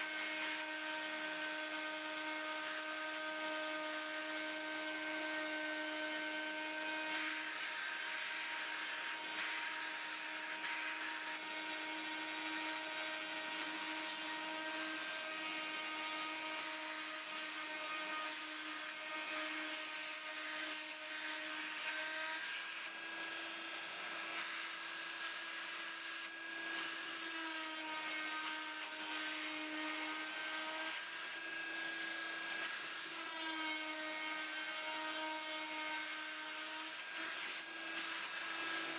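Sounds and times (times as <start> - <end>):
rotary tool whining: 0.0 - 38.9.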